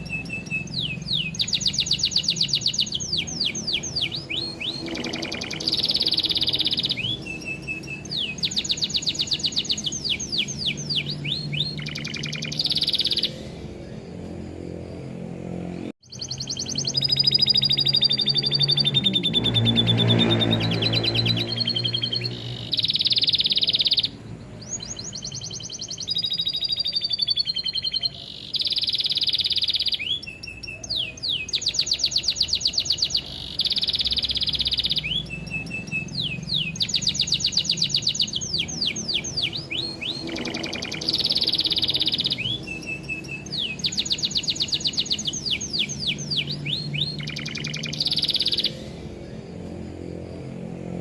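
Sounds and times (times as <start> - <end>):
canary singing trills: 0.0 - 51.0.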